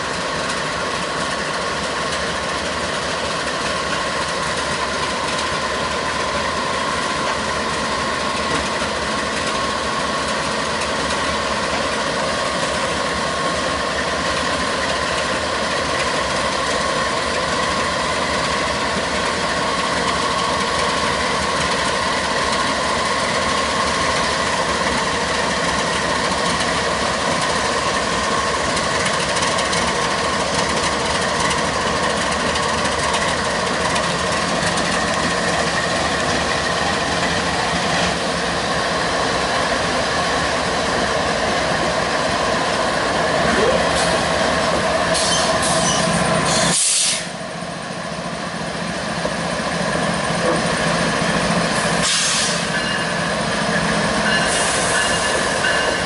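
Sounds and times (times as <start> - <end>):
diesel locomotives passing slowly: 0.0 - 56.0.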